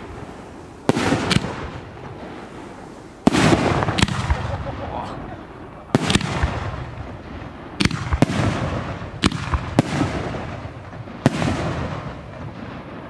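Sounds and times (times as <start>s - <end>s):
firework bangs with echo: 0.0s - 5.1s, 5.9s - 13.0s.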